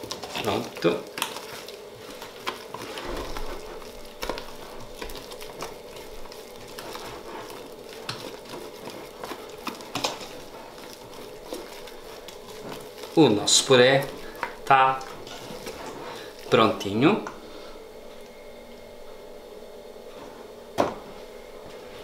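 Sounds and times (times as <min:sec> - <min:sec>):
spatula stirring mashed potato: 0:00.0 - 0:18.2.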